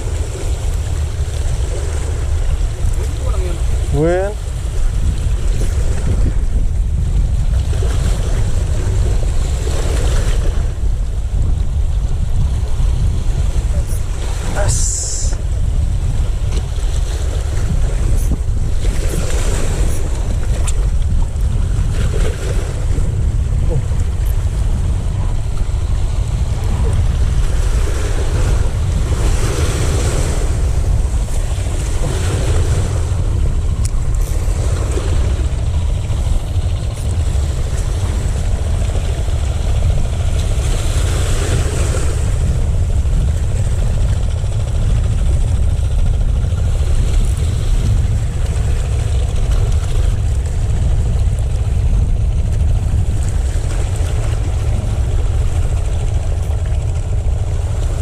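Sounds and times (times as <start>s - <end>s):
sea waves washing in: 0.0s - 58.0s
wind buffeting the microphone: 0.0s - 58.0s.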